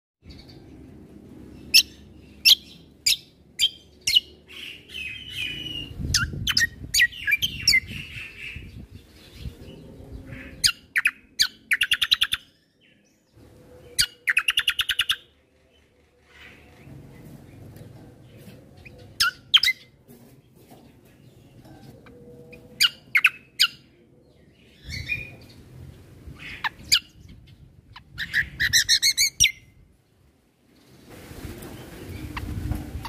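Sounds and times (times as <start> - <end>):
songbird singing: 0.2 - 33.0.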